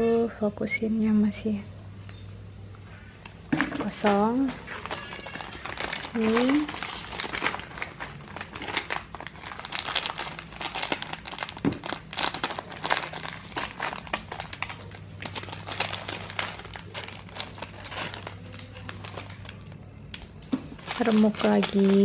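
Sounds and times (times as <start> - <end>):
plastic packets crinkling: 2.9 - 22.0.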